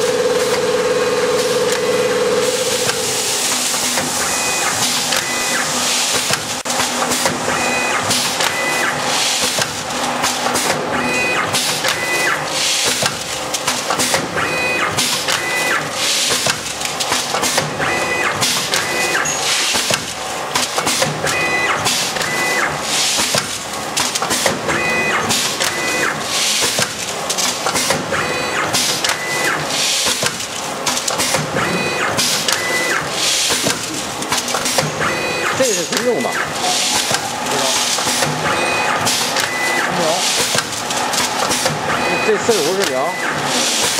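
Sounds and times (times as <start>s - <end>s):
packing machine clatter: 1.4s - 43.9s.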